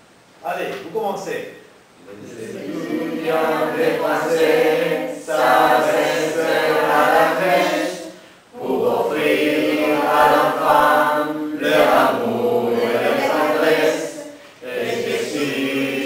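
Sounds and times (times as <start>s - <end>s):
mixed choir singing unaccompanied: 2.0s - 16.0s.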